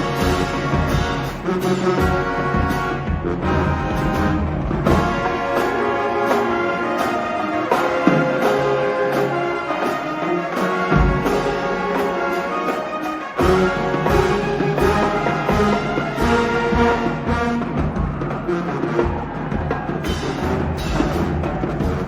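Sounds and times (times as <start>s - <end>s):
brass music over a beat: 0.0s - 22.0s.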